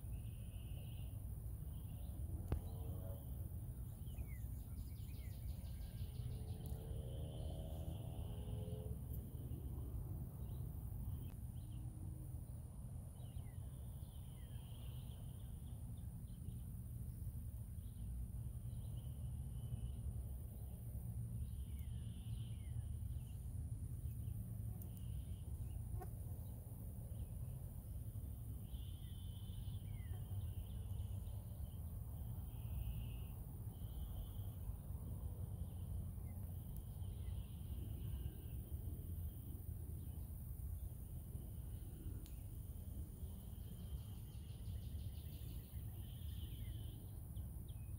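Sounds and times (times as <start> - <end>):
insects chirping in trills: 0.0 - 47.9.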